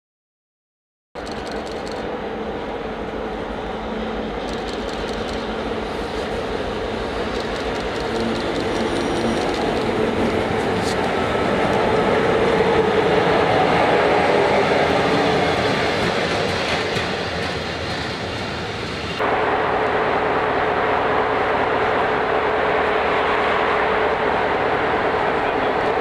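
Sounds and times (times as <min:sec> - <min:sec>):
diesel locomotive engine running: 0:01.2 - 0:26.0
rail noise: 0:01.2 - 0:26.0.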